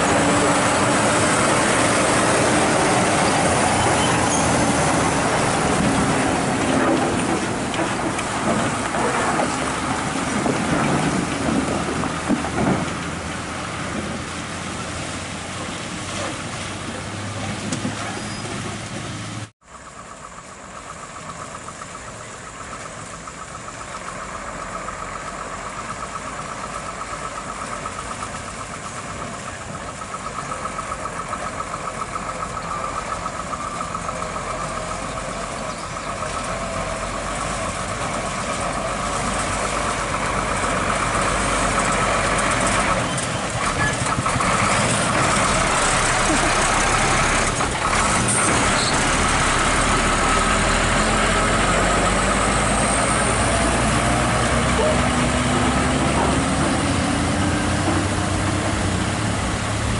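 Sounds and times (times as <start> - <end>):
truck diesel engine approaching: 0.0 - 59.9.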